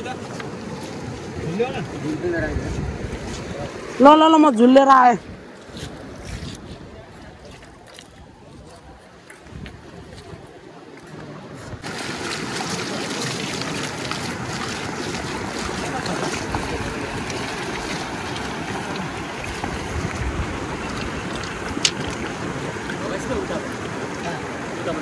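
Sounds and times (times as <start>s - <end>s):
river water rushing: 0.0s - 6.2s, 9.9s - 25.0s.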